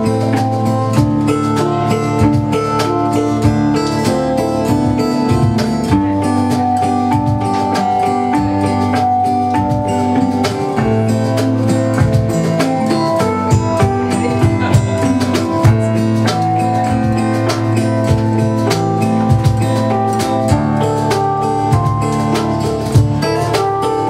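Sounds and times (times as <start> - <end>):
drums playing steady beat: 0.0 - 24.0
guitars playing chords: 0.0 - 24.0.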